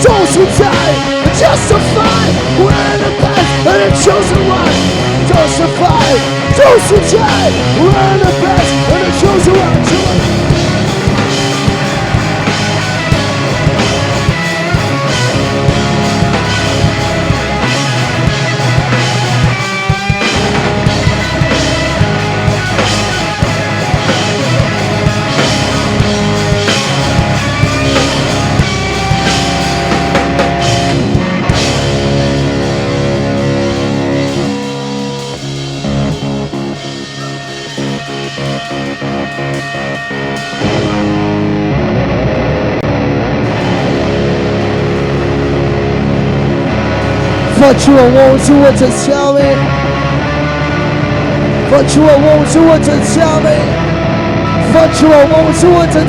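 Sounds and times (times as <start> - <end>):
electric guitar: 0.0 - 56.0
rock band playing: 0.0 - 56.0.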